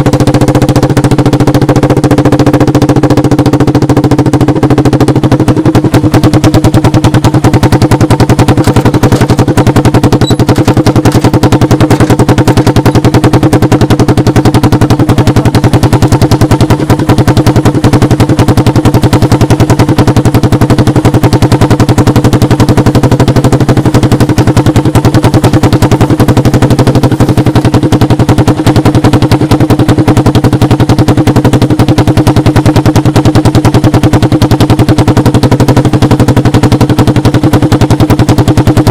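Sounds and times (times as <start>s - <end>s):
engine idling with putt-putt exhaust: 0.0s - 38.9s.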